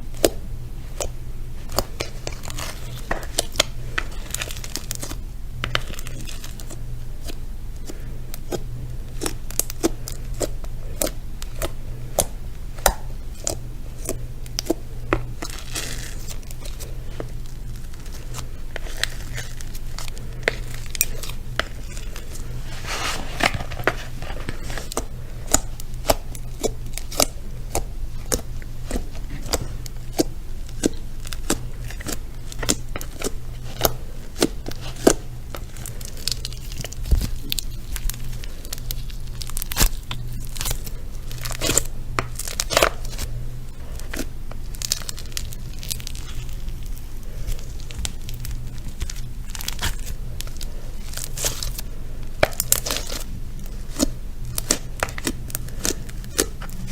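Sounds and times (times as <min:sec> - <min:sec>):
steady low hum: 0:00.0 - 0:56.9
crinkling and rustling: 0:00.2 - 0:56.9
sharp crackles and clicks: 0:09.1 - 0:56.9.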